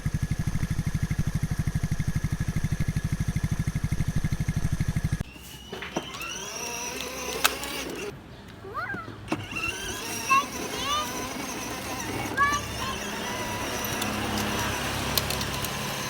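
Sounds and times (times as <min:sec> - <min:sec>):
toy motorcycle putt-putt pulsing: 0:00.0 - 0:08.1, 0:09.3 - 0:16.0.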